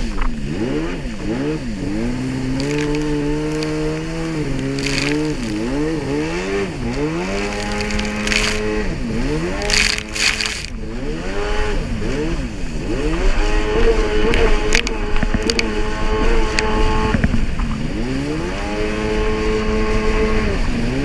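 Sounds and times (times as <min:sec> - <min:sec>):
water splashing against hull: 0:00.0 - 0:19.0
jet ski engine running: 0:00.0 - 0:21.0.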